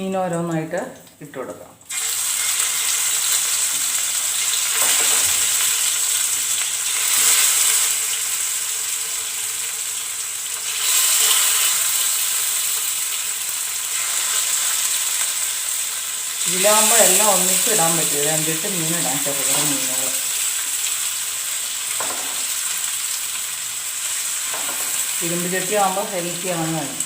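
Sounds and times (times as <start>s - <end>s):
fish sizzling in oil: 1.9s - 27.0s.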